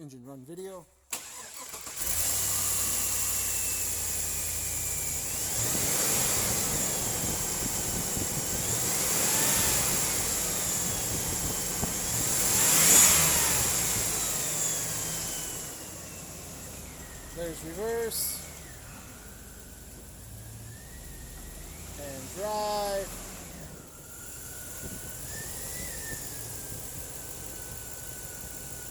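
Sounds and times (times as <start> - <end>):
car engine revving and idling: 1.1 - 28.9.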